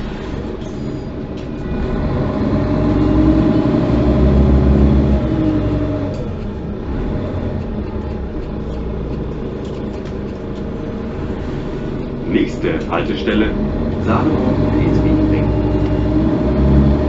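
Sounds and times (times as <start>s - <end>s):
bus diesel engine rumble: 0.0s - 17.0s
road noise: 0.0s - 17.0s.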